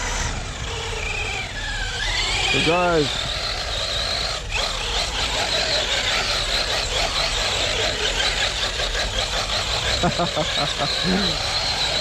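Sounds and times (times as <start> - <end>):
electric rc truck running: 0.0 - 12.0.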